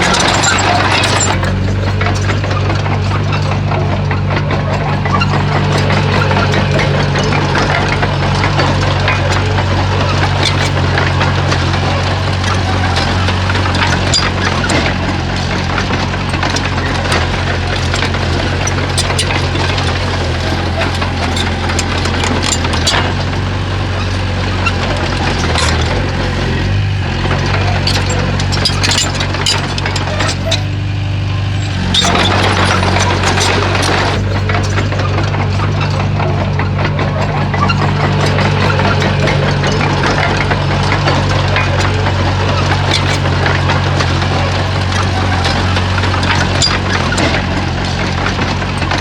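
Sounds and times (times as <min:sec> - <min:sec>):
bulldozer diesel engine running: 0:00.0 - 0:49.0
metal clanks and knocks: 0:00.0 - 0:49.0.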